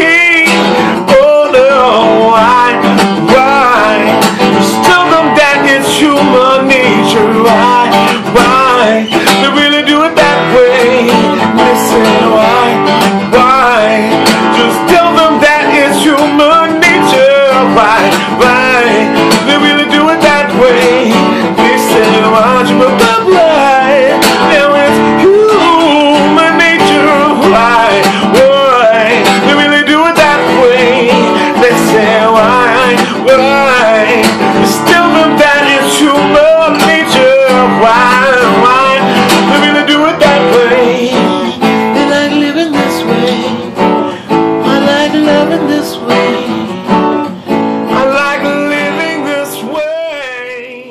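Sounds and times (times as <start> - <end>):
guitar melody with bent notes: 0.0 - 50.9.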